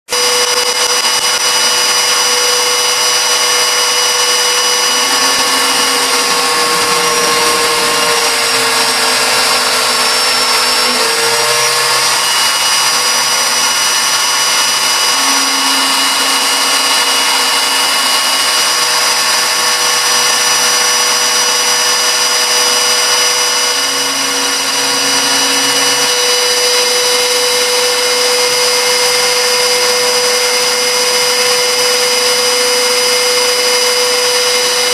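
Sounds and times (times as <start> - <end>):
low hum: 0.1 - 30.4
metal cutting noise: 0.1 - 34.9
milling spindle whine: 0.1 - 34.9.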